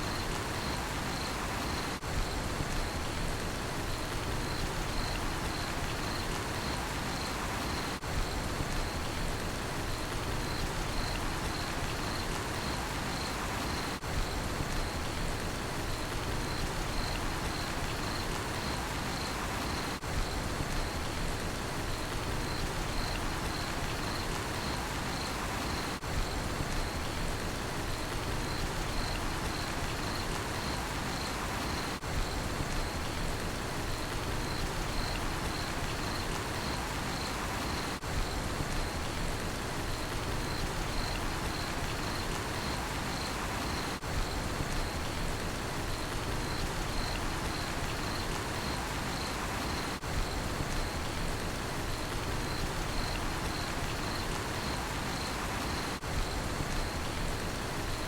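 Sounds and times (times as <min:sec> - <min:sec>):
cricket chirping: 0:00.0 - 0:02.0, 0:03.8 - 0:09.2, 0:09.8 - 0:15.2, 0:15.8 - 0:21.2, 0:21.9 - 0:39.2, 0:39.8 - 0:58.0
steady rain: 0:00.0 - 0:58.0.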